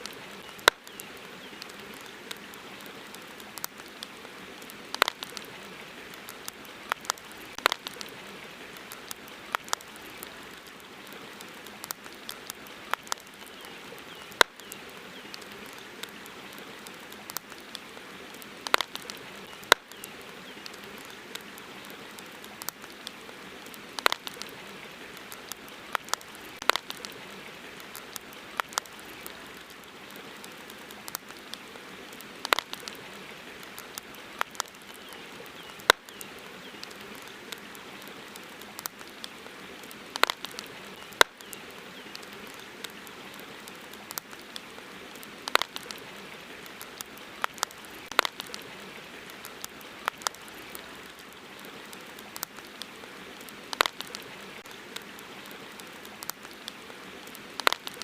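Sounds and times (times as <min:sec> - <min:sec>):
campfire crackling: 0:00.0 - 0:58.0
river water hiss: 0:00.0 - 0:58.0.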